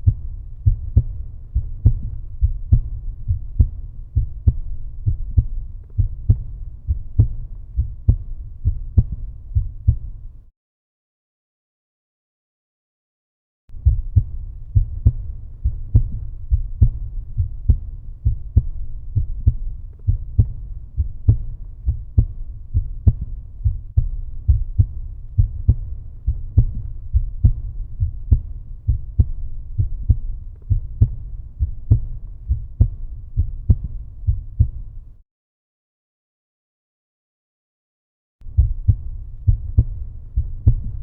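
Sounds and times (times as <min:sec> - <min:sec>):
heartbeat thumps: 0:00.0 - 0:10.4, 0:13.7 - 0:35.1, 0:38.4 - 0:41.0.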